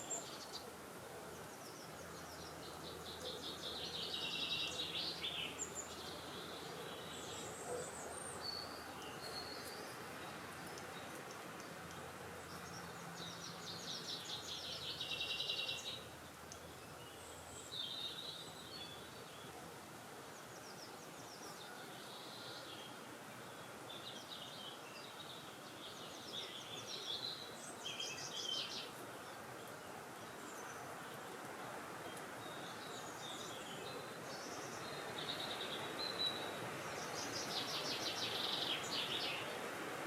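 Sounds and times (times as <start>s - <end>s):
songbirds singing: 0.0s - 40.0s
wind hiss: 0.0s - 40.0s.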